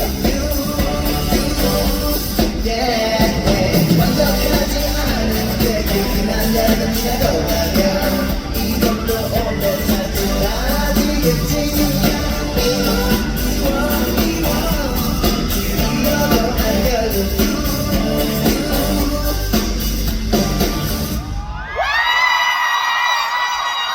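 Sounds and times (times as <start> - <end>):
crowd screaming and cheering: 0.0 - 23.9
loud instrumental pop music: 0.0 - 23.9.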